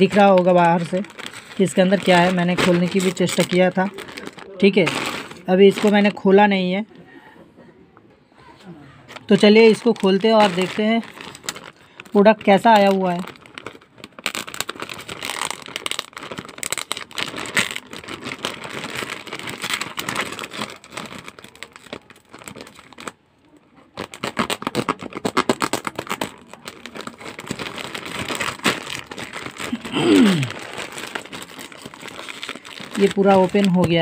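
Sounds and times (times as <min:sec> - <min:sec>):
plastic bag crinkling: 0:00.0 - 0:06.9, 0:09.1 - 0:34.0.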